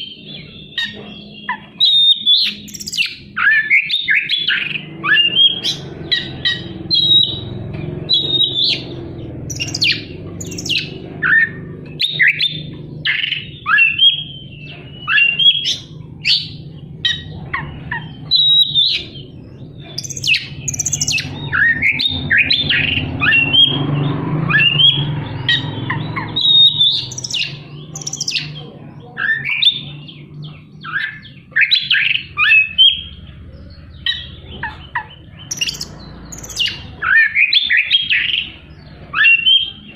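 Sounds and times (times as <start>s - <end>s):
songbird chirping and whistling: 0.0s - 28.6s, 29.2s - 39.9s.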